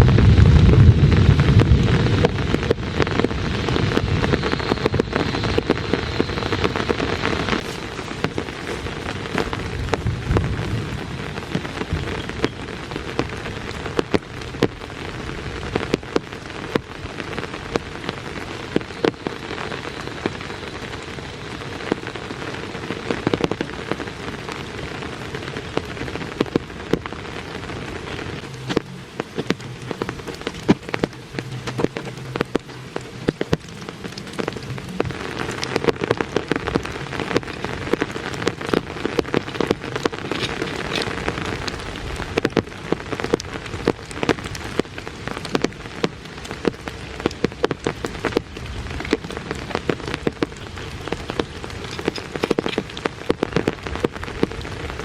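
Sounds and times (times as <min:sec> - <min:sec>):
rain hissing: 0:00.0 - 0:55.0
raindrops tapping: 0:00.0 - 0:55.0.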